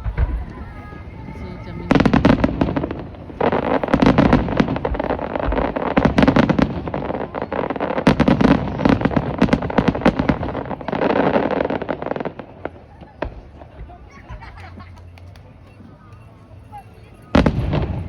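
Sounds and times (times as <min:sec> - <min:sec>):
fireworks crackling pops: 0:00.0 - 0:16.3
fireworks low bursts: 0:00.0 - 0:18.0.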